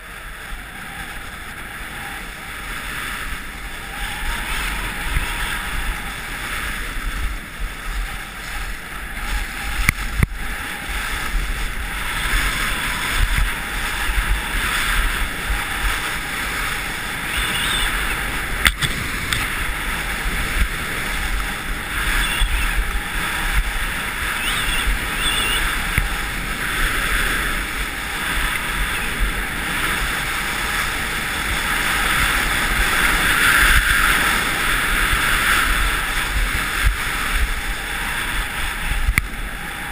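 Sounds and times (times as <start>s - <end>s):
skis scraping on snow: 0.0s - 39.9s
wind rushing: 0.0s - 39.9s.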